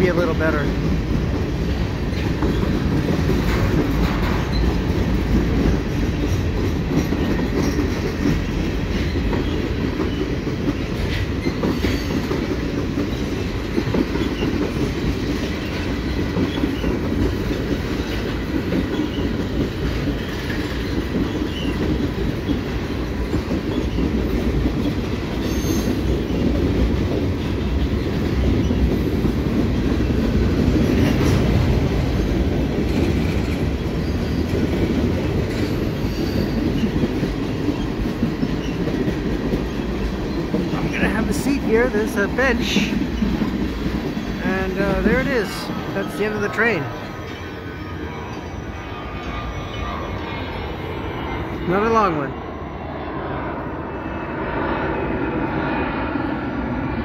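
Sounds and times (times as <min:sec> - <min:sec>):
freight train wheels on rail: 0:00.0 - 0:57.0
clatter over rail joints: 0:00.1 - 0:46.4.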